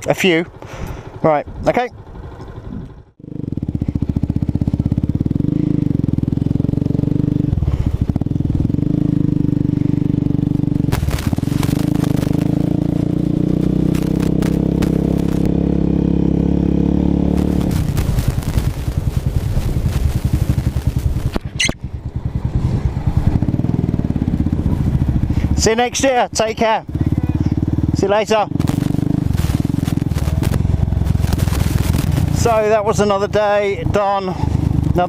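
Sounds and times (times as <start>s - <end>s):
motorcycle engine at low revs: 0.0s - 35.0s.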